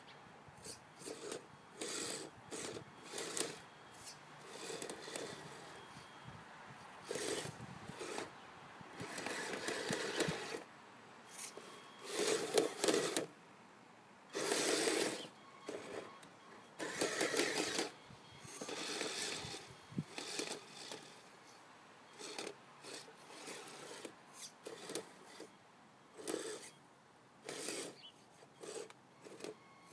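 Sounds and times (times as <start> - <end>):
electric motor and gearbox whirring: 0.6 - 6.2, 7.0 - 8.3, 9.0 - 10.7, 11.3 - 13.3, 14.3 - 26.8, 27.4 - 29.9.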